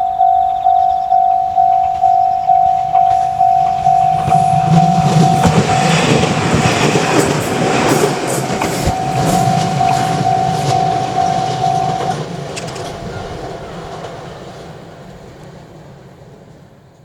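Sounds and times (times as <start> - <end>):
level-crossing warning bell: 0.0 - 15.4
train wheels clacking over rails: 0.0 - 17.0.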